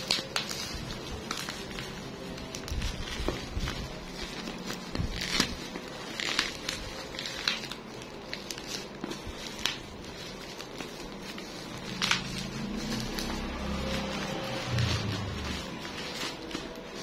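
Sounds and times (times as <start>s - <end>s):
bubble wrap crinkling and crackling: 0.0s - 17.0s.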